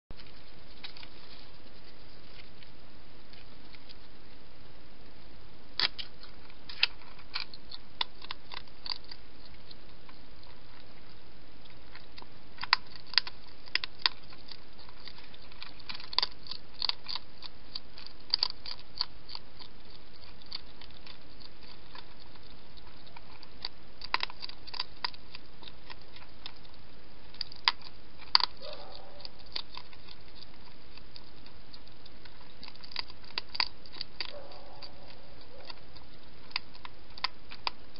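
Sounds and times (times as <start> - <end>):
hedgehog crunching dry food: 0.1 - 37.9.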